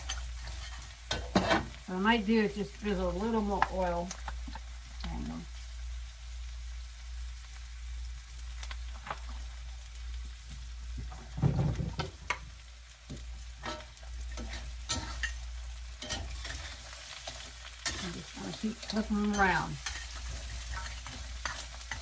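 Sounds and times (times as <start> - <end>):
food frying in hot oil: 0.0 - 22.0.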